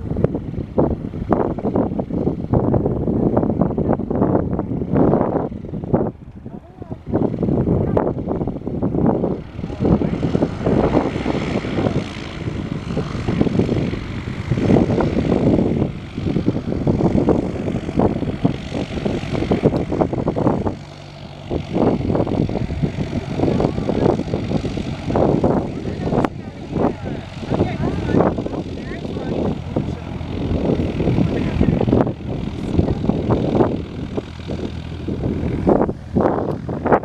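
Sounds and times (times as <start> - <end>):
propeller plane engine: 0.0 - 37.0.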